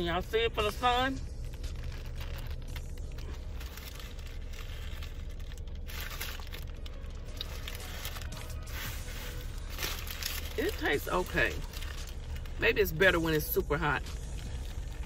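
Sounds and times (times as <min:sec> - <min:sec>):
low hum in a car cabin: 0:00.0 - 0:15.0
paper wrapper crinkling: 0:00.6 - 0:15.0.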